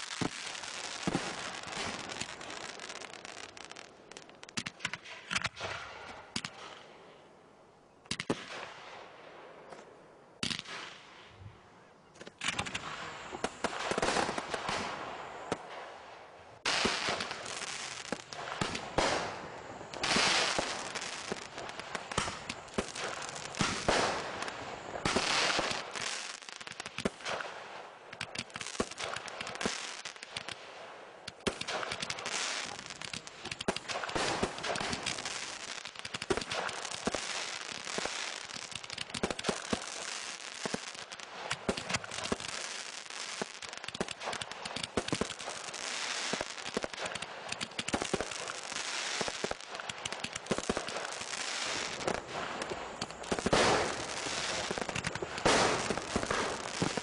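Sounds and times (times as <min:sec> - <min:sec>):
fireworks bangs: 0:00.0 - 0:06.8, 0:12.3 - 0:30.6, 0:31.3 - 0:57.0
fireworks crackling: 0:00.0 - 0:06.8, 0:10.4 - 0:11.2, 0:12.2 - 0:57.0.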